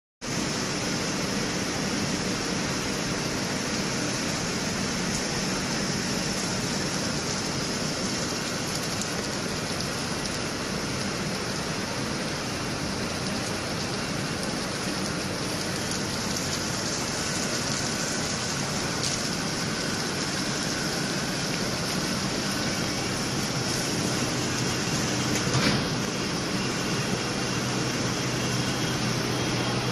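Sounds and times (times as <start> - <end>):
low mechanical hum: 0.2 - 29.9.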